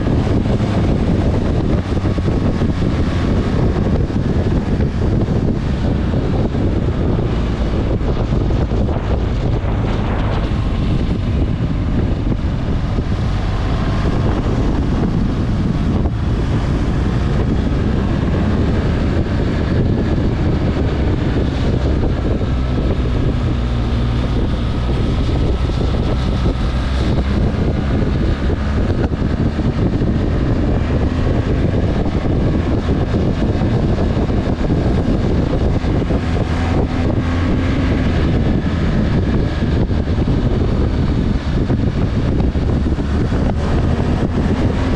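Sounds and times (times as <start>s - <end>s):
motorcycle engine running: 0.0s - 44.9s
wind buffeting on microphone: 0.0s - 44.9s.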